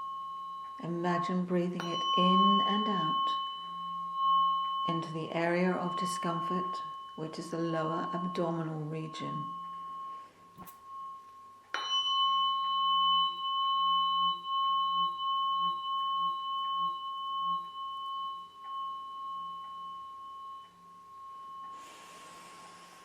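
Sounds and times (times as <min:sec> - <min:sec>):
tuning fork ringing: 0:00.0 - 0:23.0.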